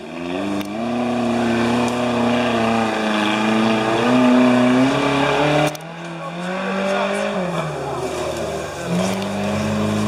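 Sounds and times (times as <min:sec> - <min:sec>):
engine revving hard: 0:00.0 - 0:10.0.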